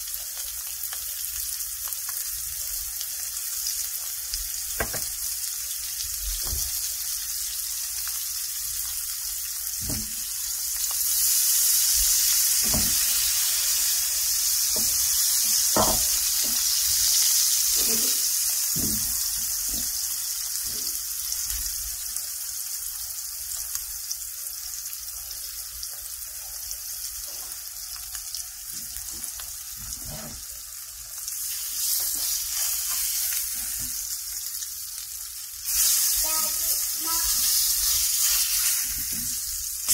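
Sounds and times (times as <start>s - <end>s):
fish sizzling in a skillet: 0.0s - 39.9s.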